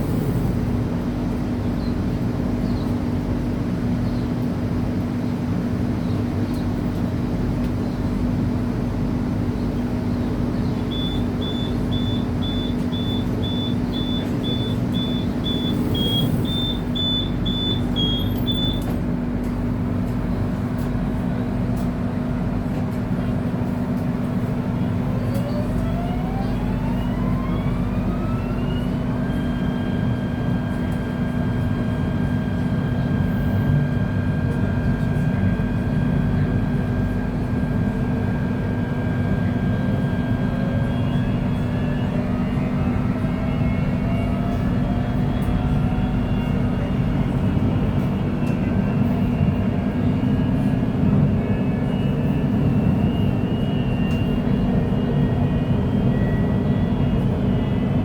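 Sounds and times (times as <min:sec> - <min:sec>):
low hum and rumble: 0:00.0 - 0:58.0.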